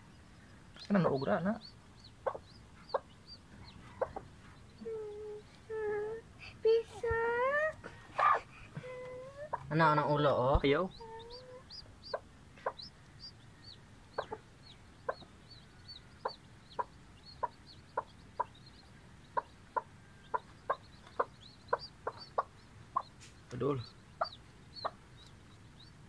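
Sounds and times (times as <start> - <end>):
chick peeping: 0.0 - 26.0
hen clucking: 0.7 - 26.0.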